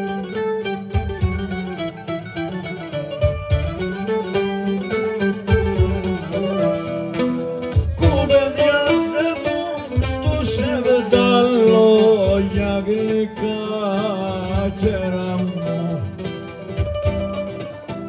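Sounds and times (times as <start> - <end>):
bowed string melody: 0.0 - 18.0
plucked lute and mandolin: 0.0 - 18.0.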